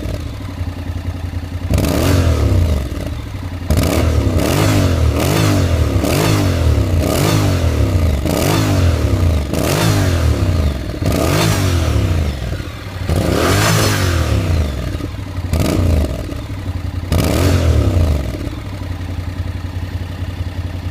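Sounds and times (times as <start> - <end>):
motorcycle engine idling: 0.0 - 20.9
motorcycle engine revving: 0.0 - 20.9.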